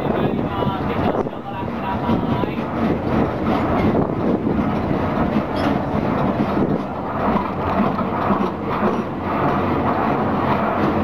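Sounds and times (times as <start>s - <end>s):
engine hum: 0.0s - 11.0s
wheels rumbling on rails: 0.0s - 11.0s.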